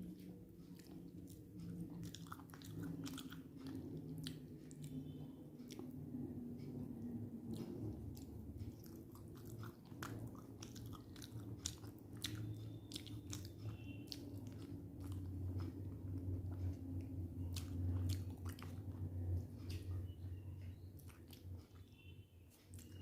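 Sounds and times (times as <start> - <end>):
person chewing crunchy food: 0.0 - 6.1, 7.0 - 23.0
low steady hum: 0.0 - 23.0.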